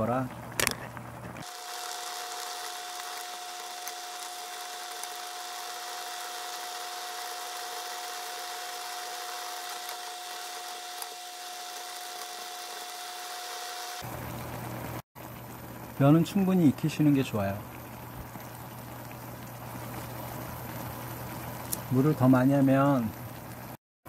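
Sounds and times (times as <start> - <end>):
sped-up simmering hiss with whine: 0.0 - 23.8.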